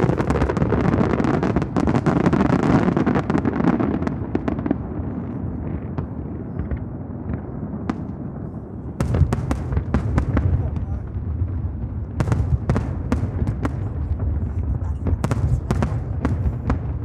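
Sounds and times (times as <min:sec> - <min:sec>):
aerial fireworks bursting: 0:00.0 - 0:17.0.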